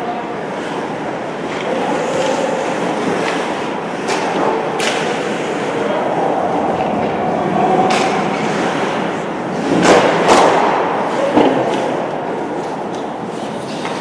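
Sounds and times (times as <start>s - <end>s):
noisy crowd rumble: 0.0s - 14.0s.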